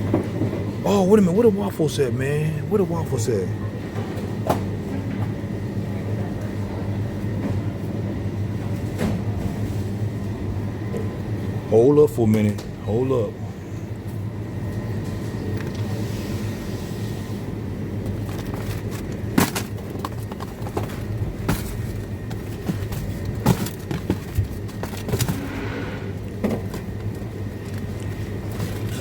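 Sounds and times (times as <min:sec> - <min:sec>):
freezer hum: 0:00.0 - 0:29.0.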